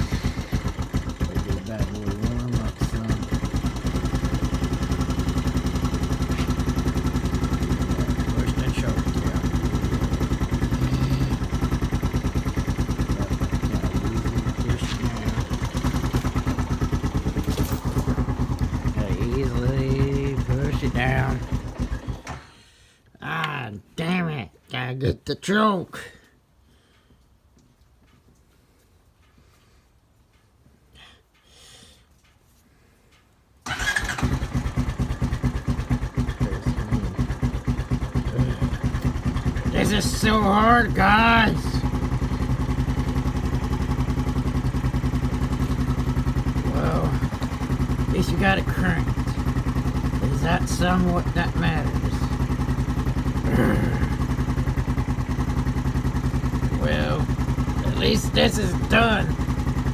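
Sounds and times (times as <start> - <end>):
atv engine idling: 0.0 - 22.5, 33.6 - 59.9.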